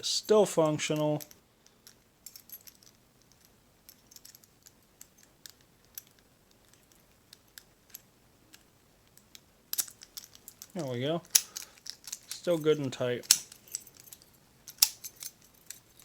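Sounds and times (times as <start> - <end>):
padlock metallic clicks: 1.2 - 12.5, 13.2 - 15.8.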